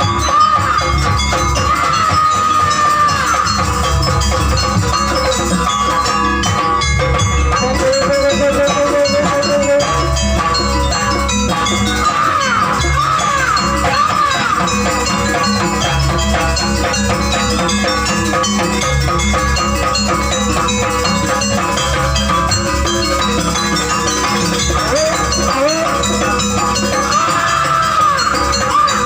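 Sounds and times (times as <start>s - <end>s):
drums: 0.0s - 29.0s.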